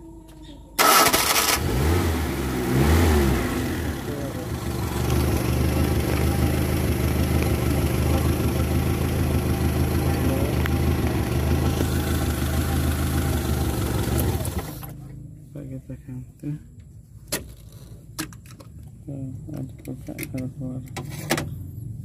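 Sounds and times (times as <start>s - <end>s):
car engine idling: 0.3s - 22.0s.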